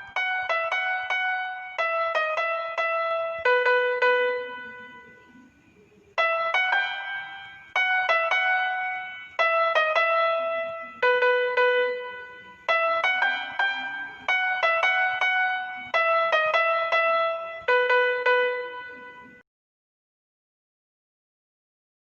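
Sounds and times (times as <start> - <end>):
piano ringtone melody: 0.0 - 19.4.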